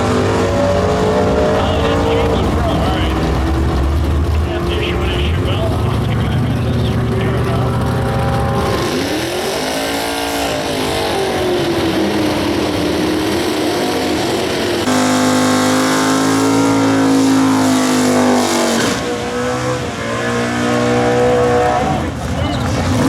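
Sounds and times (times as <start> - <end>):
muscle car engines running hard: 0.0 - 23.0.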